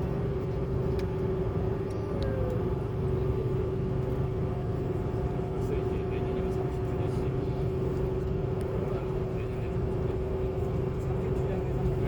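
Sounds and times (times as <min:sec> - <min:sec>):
airliner cabin drone: 0:00.0 - 0:12.0
constant whine: 0:00.0 - 0:12.0.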